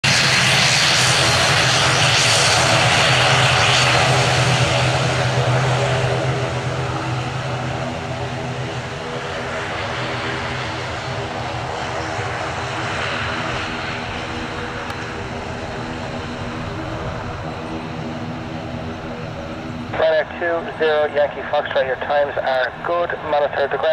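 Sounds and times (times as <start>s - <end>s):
jet engine roar with whine: 0.0s - 23.9s.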